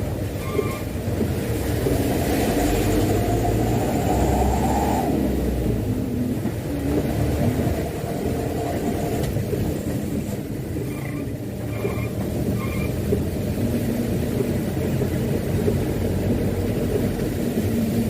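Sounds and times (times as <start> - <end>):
truck diesel engine rumbling: 0.0 - 18.0.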